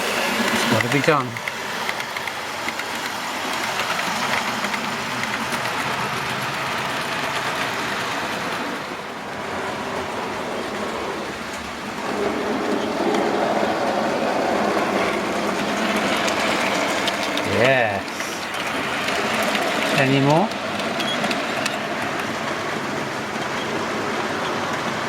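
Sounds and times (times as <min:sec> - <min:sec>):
model train wheels rattling: 0:00.0 - 0:25.0.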